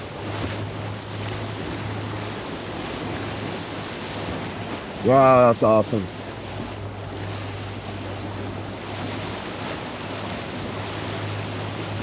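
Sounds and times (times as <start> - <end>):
boat engine hum: 0.0 - 12.0
water rushing along hull: 0.0 - 12.0.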